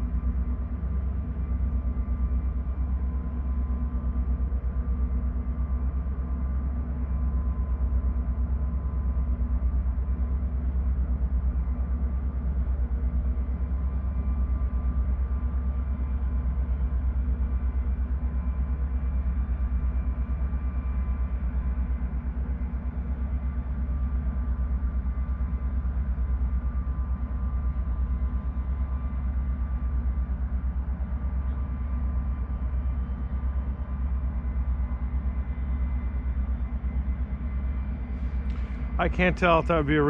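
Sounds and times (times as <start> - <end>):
faint steady tones: 0.0 - 40.0.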